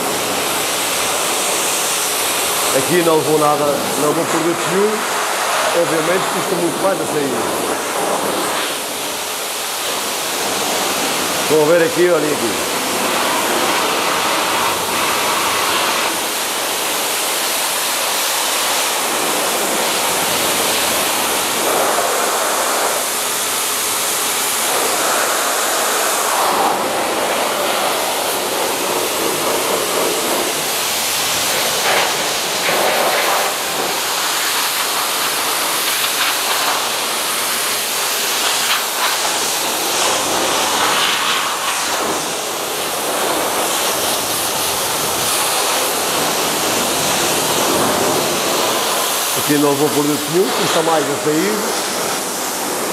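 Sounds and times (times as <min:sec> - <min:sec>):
pressure washer spraying hiss: 0:00.0 - 0:52.9.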